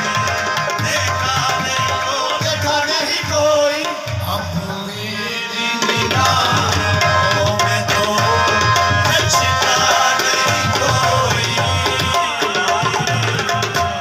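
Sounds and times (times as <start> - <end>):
harmonium notes: 0.0 - 14.0
tabla drumming: 0.0 - 14.0.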